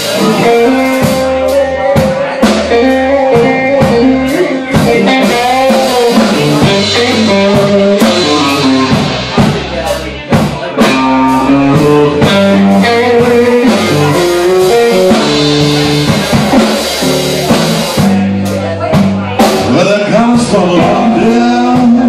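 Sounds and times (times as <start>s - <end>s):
electric guitar lines: 0.0s - 10.2s, 10.8s - 18.4s
blues band playing: 0.0s - 22.0s
drum kit: 0.0s - 22.0s.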